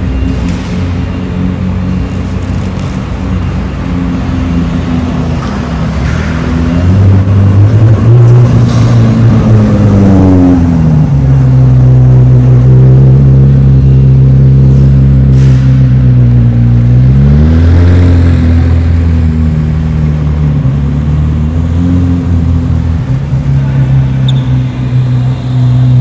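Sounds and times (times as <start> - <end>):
car engine running loud: 0.0 - 26.0.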